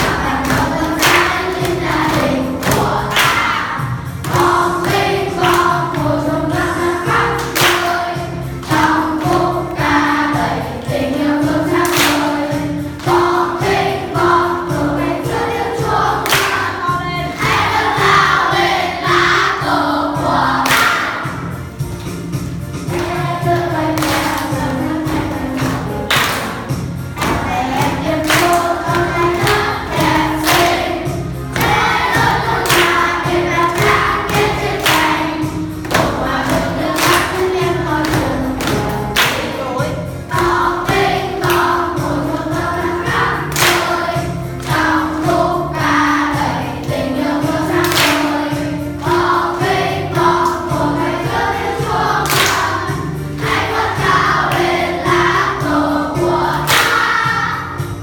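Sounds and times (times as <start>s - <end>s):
children singing in unison: 0.0s - 21.6s, 22.8s - 58.0s
instrumental accompaniment: 0.0s - 58.0s.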